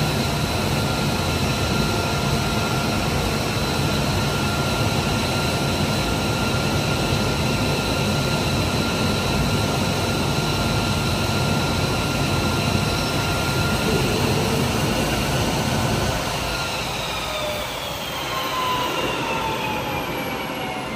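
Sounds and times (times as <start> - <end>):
jet engine idling: 0.0 - 20.9.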